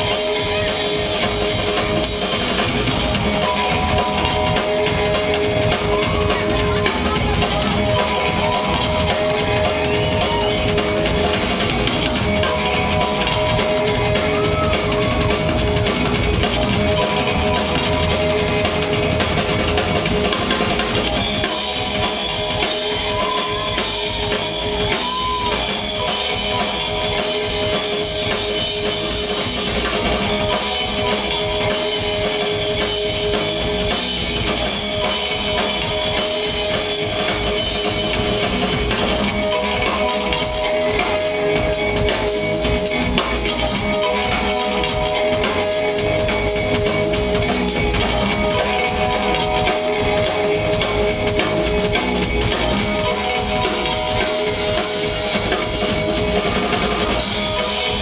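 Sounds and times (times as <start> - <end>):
drum kit played hard: 0.0 - 58.0
held instrumental notes: 0.0 - 58.0.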